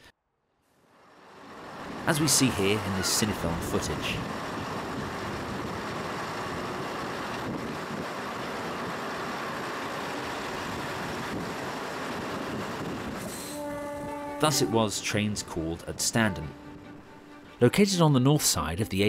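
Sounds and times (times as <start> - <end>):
train rushing: 0.8 - 18.6.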